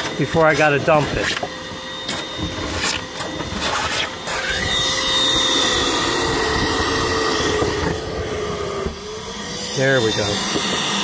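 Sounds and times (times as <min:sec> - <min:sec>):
shop vac sucking water: 0:00.0 - 0:11.0.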